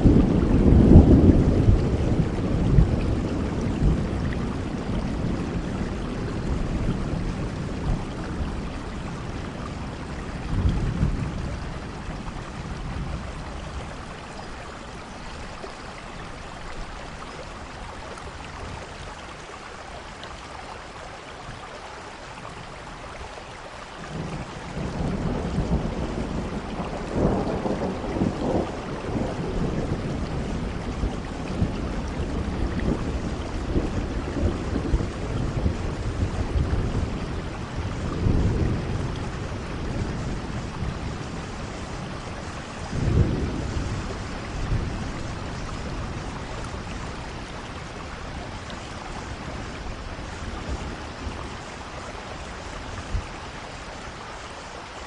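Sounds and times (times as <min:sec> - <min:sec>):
rolling thunder: 0:00.0 - 0:14.6, 0:24.0 - 0:53.8
steady rain: 0:00.0 - 0:55.0.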